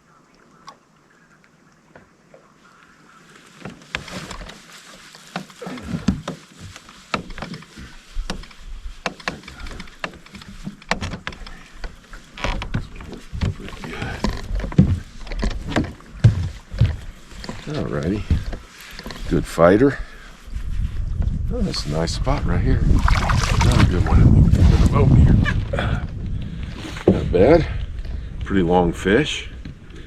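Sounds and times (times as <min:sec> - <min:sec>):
water splashing against boat: 0:00.0 - 0:27.5.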